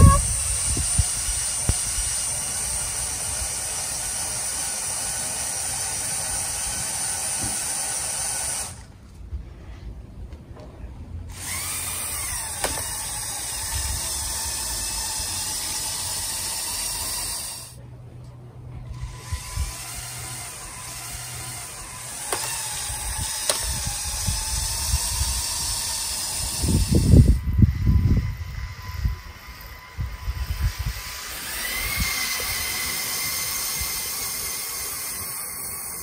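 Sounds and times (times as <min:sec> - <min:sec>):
electric motors whining: 0:00.0 - 0:08.9, 0:11.3 - 0:17.8, 0:18.9 - 0:36.0.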